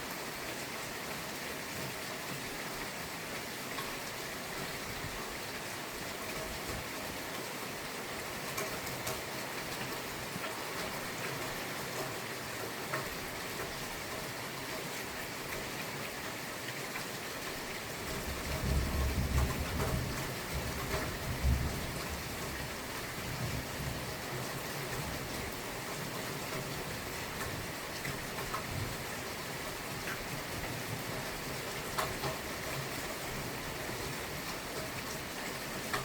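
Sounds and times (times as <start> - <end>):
rain hiss: 0.0 - 36.0.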